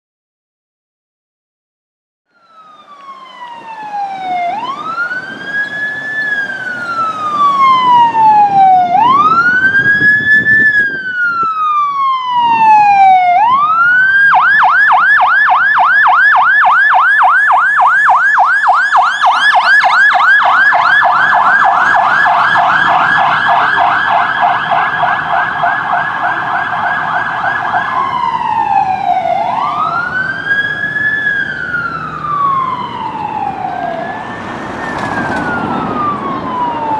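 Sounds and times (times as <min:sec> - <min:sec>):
electronic siren wailing and yelping: 0:02.3 - 0:36.9.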